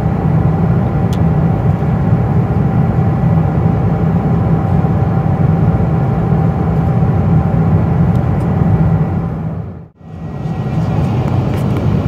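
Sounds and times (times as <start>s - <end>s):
airplane cabin engine rumble: 0.0s - 12.0s
faint steady whine: 0.0s - 12.0s.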